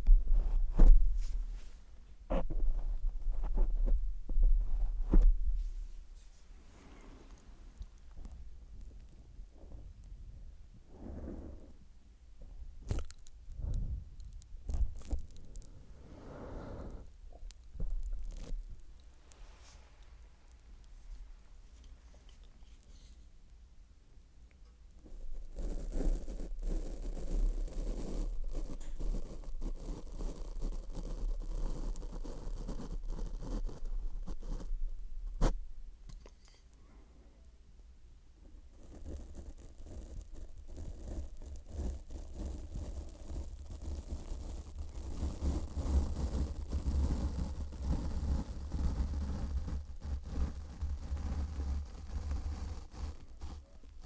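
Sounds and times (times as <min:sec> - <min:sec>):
licking rubbing on microphone: 0:00.0 - 0:06.6, 0:12.8 - 0:23.3, 0:25.0 - 0:36.7, 0:38.7 - 0:54.0.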